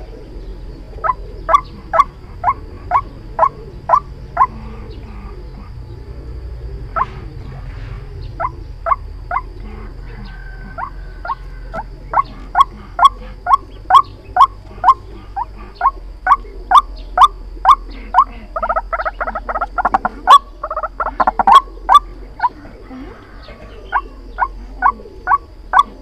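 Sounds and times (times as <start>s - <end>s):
waterhen calling: 0.0s - 5.8s, 8.3s - 26.0s.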